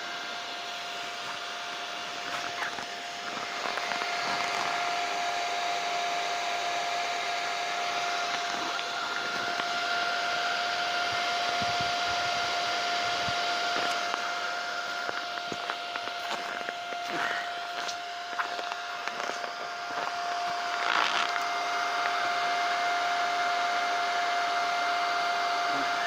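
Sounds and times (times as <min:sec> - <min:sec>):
electric welding arc hissing: 0:00.0 - 0:25.1
welder whine: 0:00.0 - 0:26.0.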